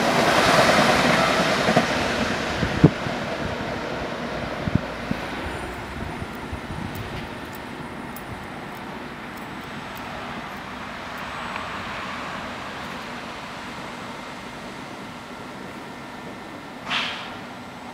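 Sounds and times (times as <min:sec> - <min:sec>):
electric train equipment running: 0:00.0 - 0:17.9.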